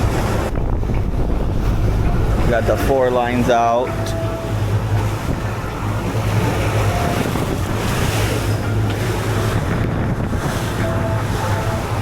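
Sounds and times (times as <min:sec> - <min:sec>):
low boat engine drone: 0:00.0 - 0:12.0
water rushing past hull: 0:00.0 - 0:12.0
wind buffeting microphone: 0:00.0 - 0:12.0.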